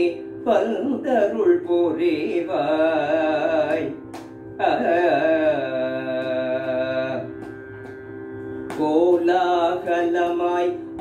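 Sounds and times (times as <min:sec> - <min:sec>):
man singing ornamented notes: 0:00.0 - 0:07.4, 0:08.7 - 0:11.0.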